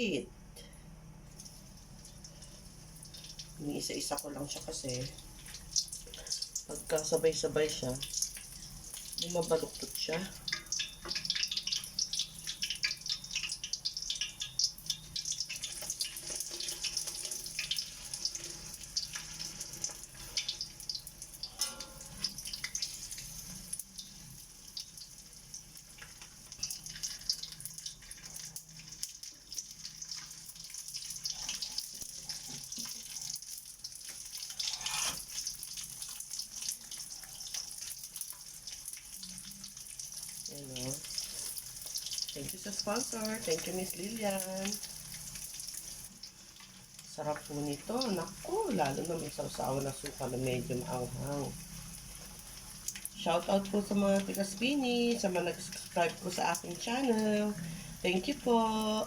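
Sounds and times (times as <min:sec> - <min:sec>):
fish frying in oil: 0:01.3 - 0:59.0.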